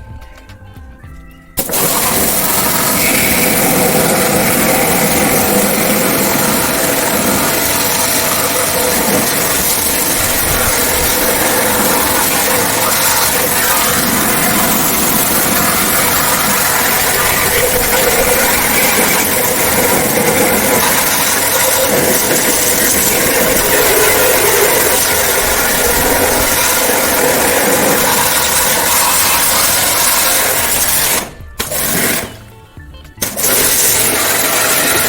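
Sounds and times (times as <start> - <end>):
machine hissing: 1.6 - 32.4, 33.2 - 35.0.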